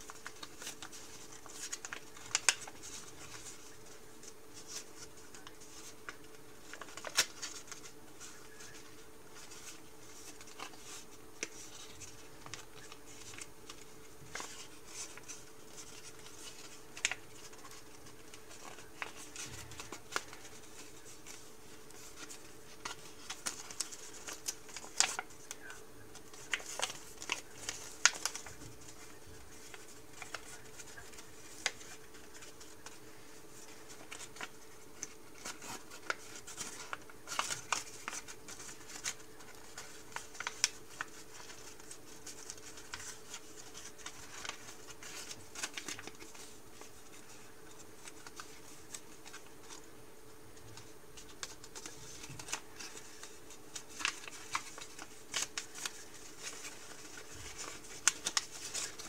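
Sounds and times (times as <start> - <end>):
faint steady hum: 0.0 - 59.0
paper folding and creasing: 0.0 - 59.0.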